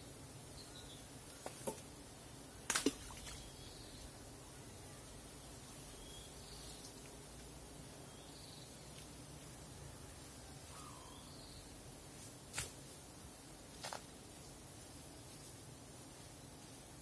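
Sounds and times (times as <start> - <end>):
high insect hiss: 0.0 - 17.0.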